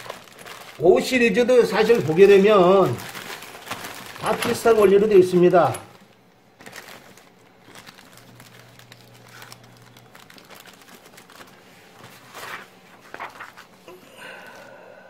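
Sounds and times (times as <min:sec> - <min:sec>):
plastic bags crinkling: 0:00.0 - 0:14.8.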